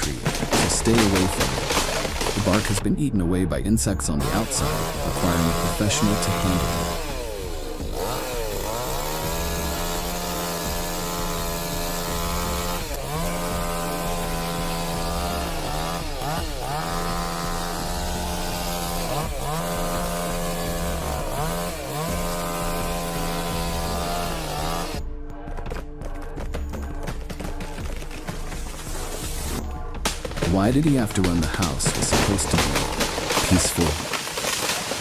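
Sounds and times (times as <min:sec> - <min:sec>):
chainsaw cutting wood: 0:00.0 - 0:02.8, 0:04.2 - 0:25.0, 0:27.0 - 0:35.0.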